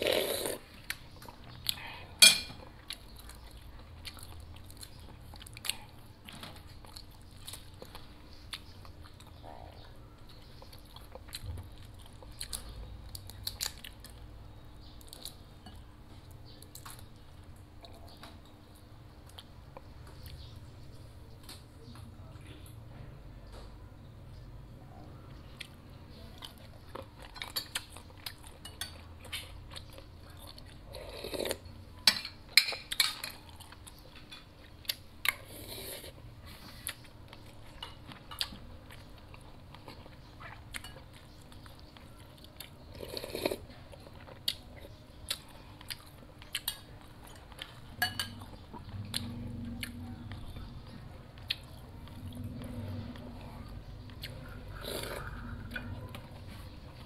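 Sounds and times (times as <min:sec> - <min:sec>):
chewing: 0:00.0 - 0:20.7, 0:25.3 - 0:57.0.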